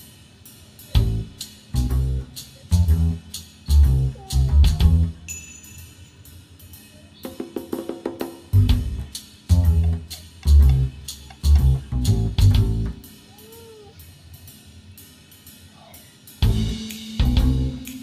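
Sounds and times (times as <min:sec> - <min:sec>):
music with drums bass and guitar: 0:00.0 - 0:05.3, 0:06.4 - 0:13.4, 0:14.0 - 0:18.0.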